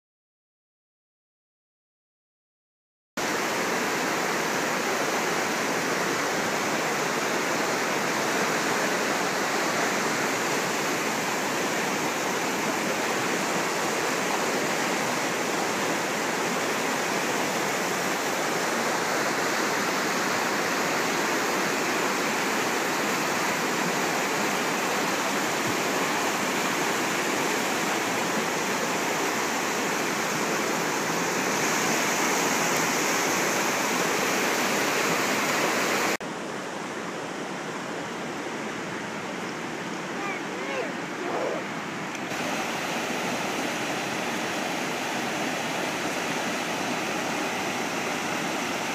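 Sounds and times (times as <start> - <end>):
water rushing over rocks: 3.2 - 48.9.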